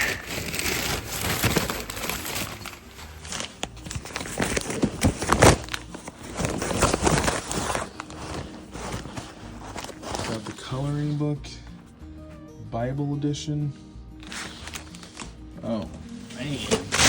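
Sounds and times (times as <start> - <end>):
items being rummaged through: 0.0 - 12.0, 14.2 - 17.0.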